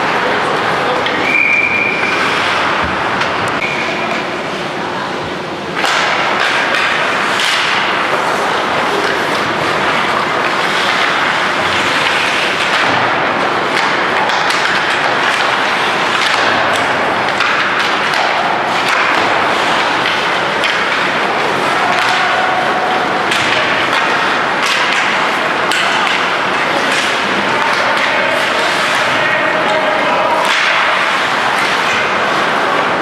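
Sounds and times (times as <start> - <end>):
hockey sticks clacking: 0.0 - 4.5, 5.7 - 33.0
skate blades scraping ice: 0.9 - 4.1, 5.8 - 33.0.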